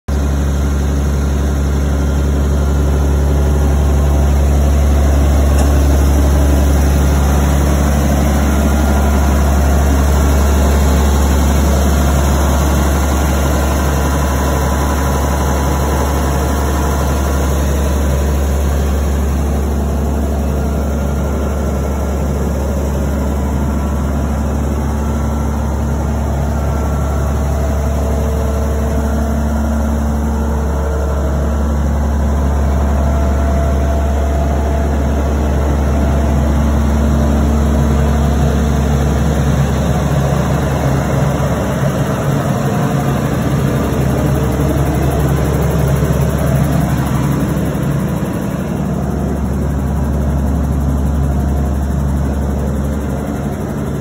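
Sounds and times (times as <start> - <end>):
combine harvester engine idling: 0.1 - 54.0.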